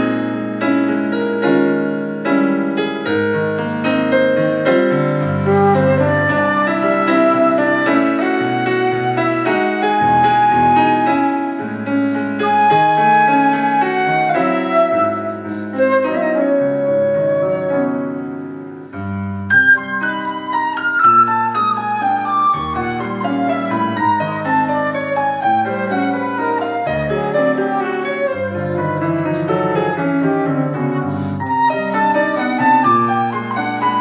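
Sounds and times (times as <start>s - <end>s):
flute and piano duet: 0.0s - 34.0s.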